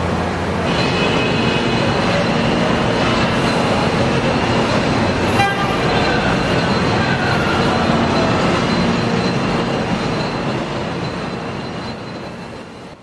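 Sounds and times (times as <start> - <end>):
factory mechanical din: 0.0 - 13.0
thin high tones: 0.7 - 13.0.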